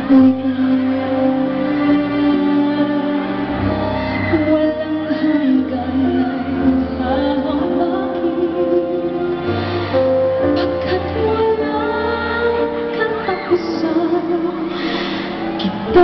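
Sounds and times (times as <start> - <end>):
live band playing: 0.0 - 16.0
woman singing into a microphone: 0.0 - 16.0.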